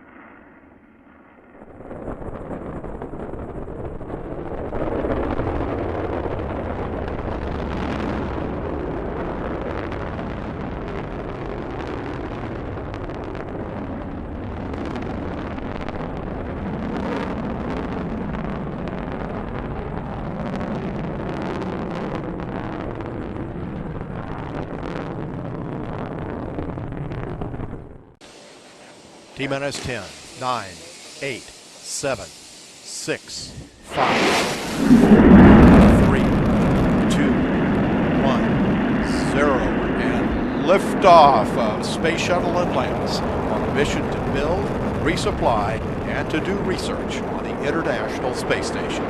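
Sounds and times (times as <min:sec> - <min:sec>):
rocket launch rumble: 0:00.0 - 0:49.0.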